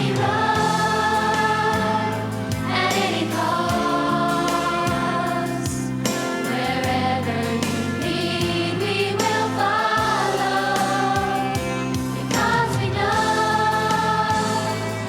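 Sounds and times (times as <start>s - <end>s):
instrumental accompaniment with beat: 0.0s - 15.0s
youth choir singing: 0.0s - 15.0s.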